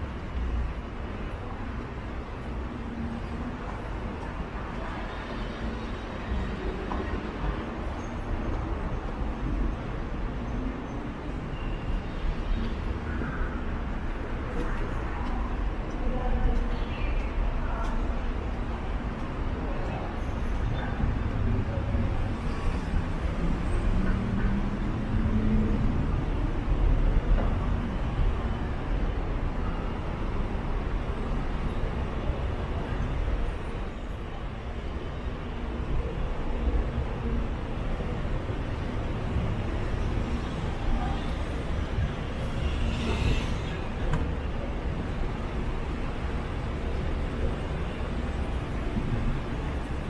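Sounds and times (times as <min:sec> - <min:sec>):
traffic rumble: 0:00.0 - 0:50.0.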